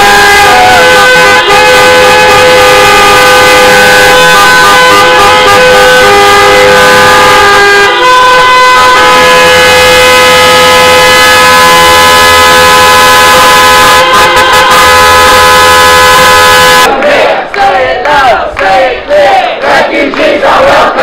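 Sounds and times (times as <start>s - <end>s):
car horns honking: 0.0s - 16.9s.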